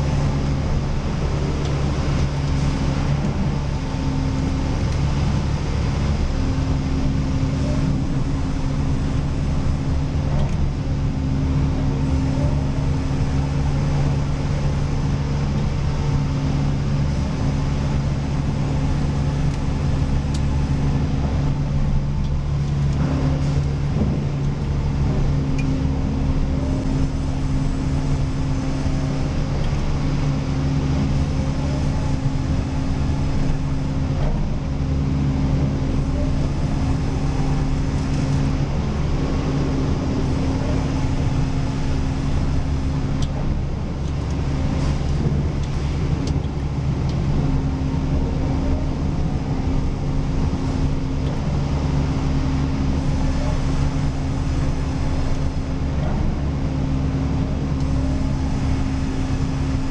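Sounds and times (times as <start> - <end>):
sawmill machinery low drone: 0.0 - 59.9.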